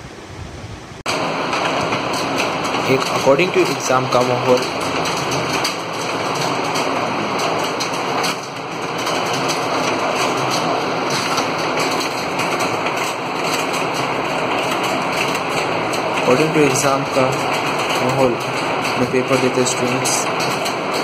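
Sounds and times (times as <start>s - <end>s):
many people typing on keyboards: 1.1s - 21.0s.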